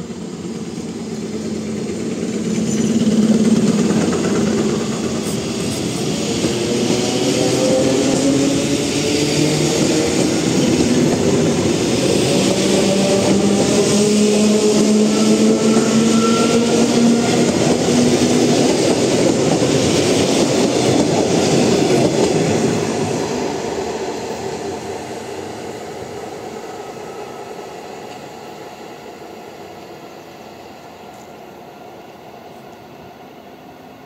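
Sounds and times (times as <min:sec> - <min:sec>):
train hum: 0:00.0 - 0:34.0
train wheels rolling on rails: 0:00.0 - 0:34.0.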